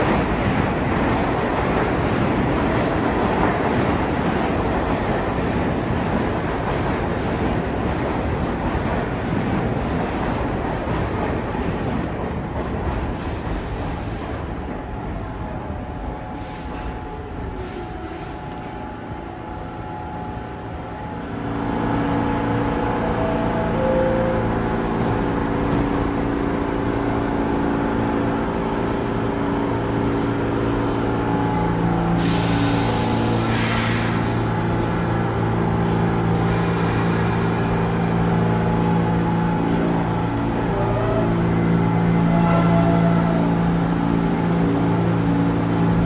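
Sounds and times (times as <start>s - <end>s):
subway train rumbling: 0.0s - 46.0s.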